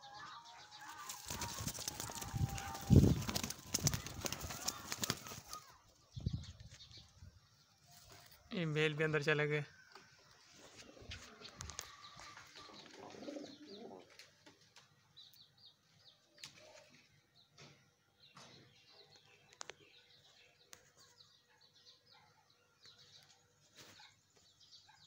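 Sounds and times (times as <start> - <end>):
faint bird chirping: 0.0 - 14.3, 15.0 - 25.0.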